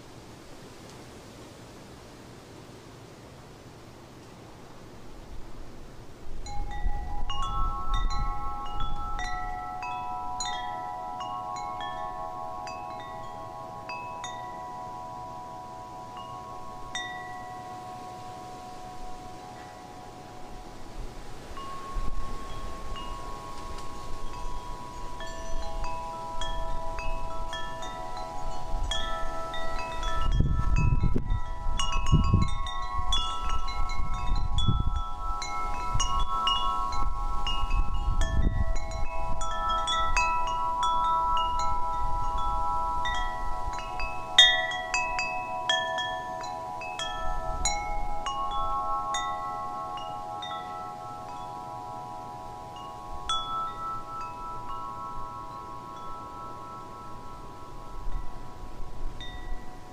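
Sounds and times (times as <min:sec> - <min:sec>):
wind chimes ringing: 0:06.3 - 0:59.9.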